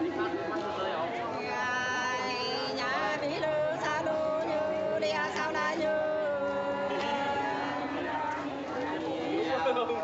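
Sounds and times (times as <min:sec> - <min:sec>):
unaccompanied folk singing: 0:00.0 - 0:10.0.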